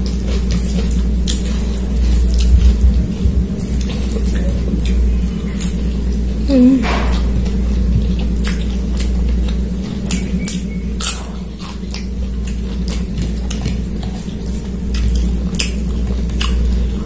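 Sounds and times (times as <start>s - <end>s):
mouth chewing: 0.0s - 17.0s
steady low hum: 0.0s - 17.0s.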